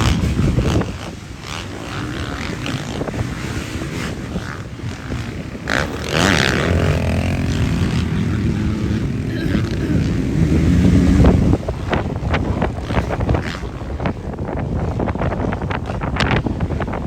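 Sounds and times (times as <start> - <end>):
motocross bike engines: 0.0 - 17.0
motorbike revving: 0.0 - 17.0.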